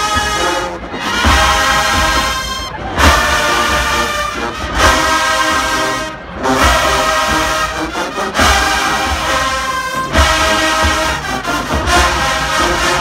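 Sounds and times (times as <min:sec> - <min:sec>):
brass section blasting chords: 0:00.0 - 0:13.0.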